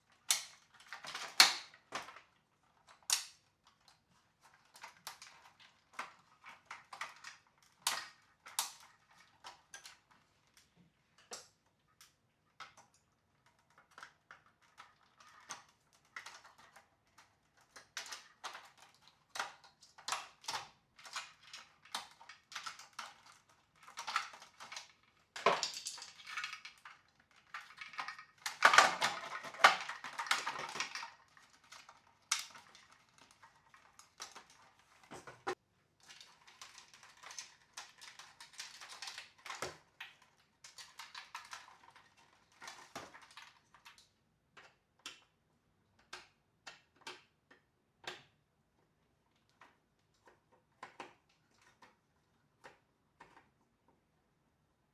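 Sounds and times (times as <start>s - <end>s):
clicks and taps of small parts: 0.2s - 2.3s, 2.9s - 48.4s, 49.4s - 52.0s.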